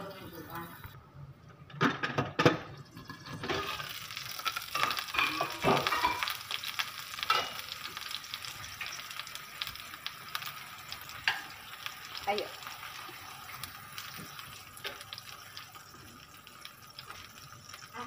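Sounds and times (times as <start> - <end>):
hot oil sizzling in frying pan: 0.0 - 1.0, 2.8 - 18.0.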